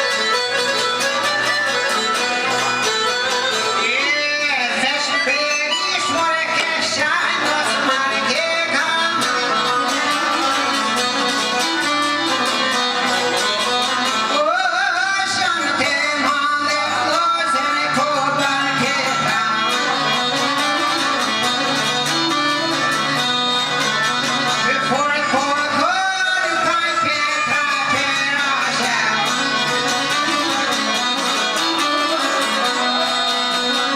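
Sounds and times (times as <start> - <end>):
plucked strings and fiddle folk music: 0.0 - 33.9.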